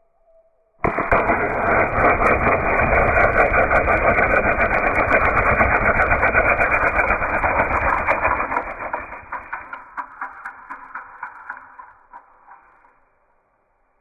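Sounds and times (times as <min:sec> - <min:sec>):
crackling sputter: 0:00.8 - 0:12.9.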